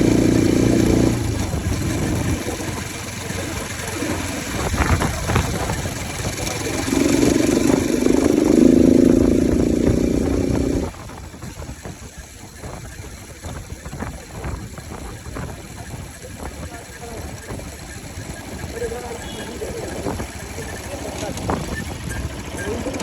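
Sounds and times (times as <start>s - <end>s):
motorcycle engine revving and idling: 0.0s - 23.0s.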